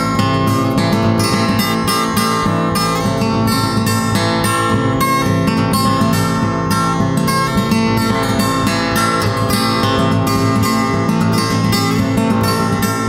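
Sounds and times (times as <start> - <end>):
plucked acoustic guitar music: 0.0 - 13.0.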